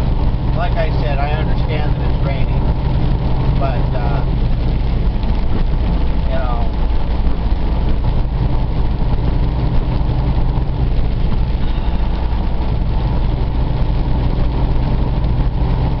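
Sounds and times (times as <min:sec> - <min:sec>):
heavy rain: 0:00.0 - 0:16.0
truck engine drone: 0:00.0 - 0:16.0
tyres on wet highway: 0:00.0 - 0:16.0.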